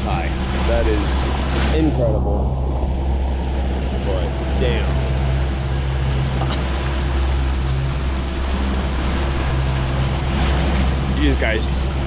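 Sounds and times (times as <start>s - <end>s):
boat engine humming: 0.0s - 12.0s
water noise: 0.0s - 12.0s.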